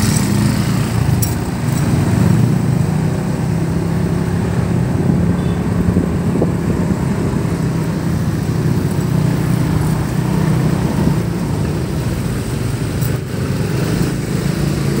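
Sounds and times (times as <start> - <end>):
car and motorcycle engines: 0.0 - 15.0.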